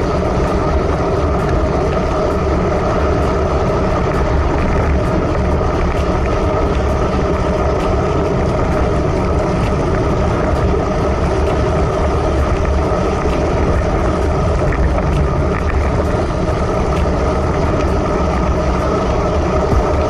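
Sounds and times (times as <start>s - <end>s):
tyres hissing on wet asphalt: 0.0s - 20.0s
wind rushing over microphone: 0.0s - 20.0s.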